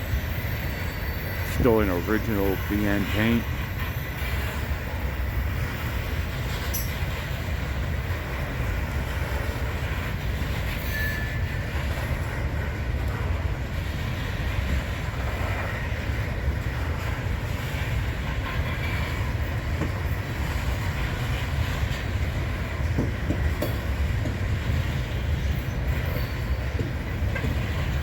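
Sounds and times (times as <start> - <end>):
train cars rumbling on rails: 0.0 - 28.0
train wheel squeal: 0.0 - 28.0.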